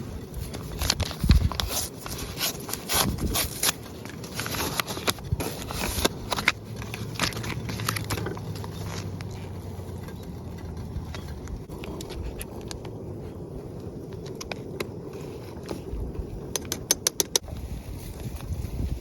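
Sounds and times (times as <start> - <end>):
wood fire crackling and popping: 0.0 - 17.5.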